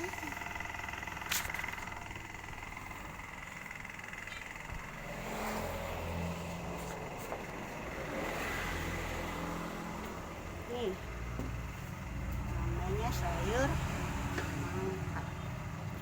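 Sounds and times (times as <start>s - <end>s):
vehicle engine passing: 0.0s - 16.0s.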